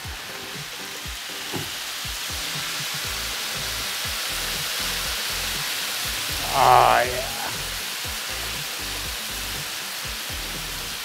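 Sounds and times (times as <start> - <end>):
sauce sizzling on a griddle: 0.0 - 11.0.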